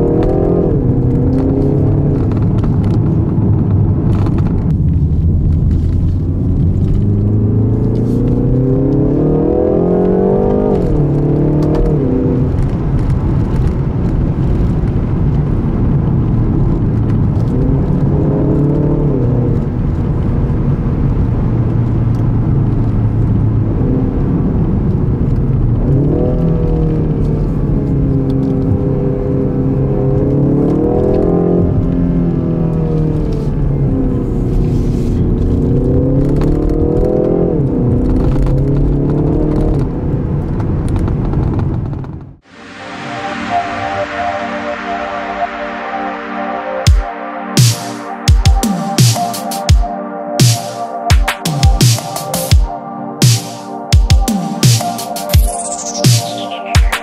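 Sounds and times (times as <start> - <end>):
car engine accelerating: 0.0 - 49.7
road rumble: 0.0 - 56.6.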